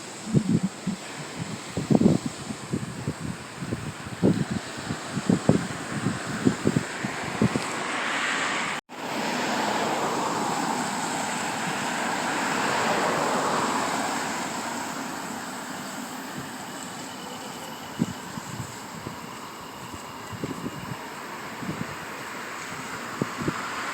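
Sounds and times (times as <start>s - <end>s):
sea surf washing on shore: 0.0s - 23.9s
wind on microphone: 0.0s - 23.9s.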